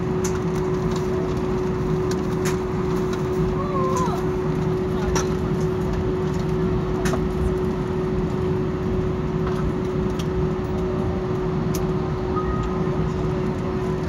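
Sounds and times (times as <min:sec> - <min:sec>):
constant hum: 0:00.0 - 0:14.0
jet airliner cabin rumble: 0:00.0 - 0:14.0.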